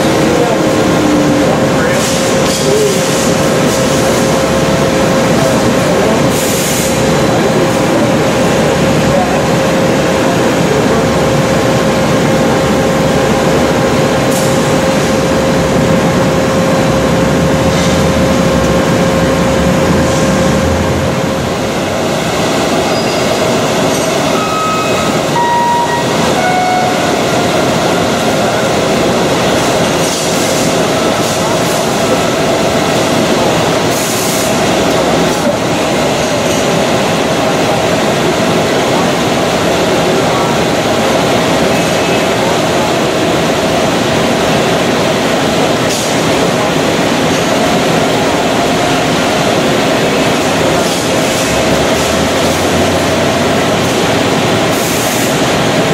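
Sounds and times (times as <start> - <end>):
constant machine hum: 0.0 - 55.9
machinery rumble and hiss: 0.0 - 55.9.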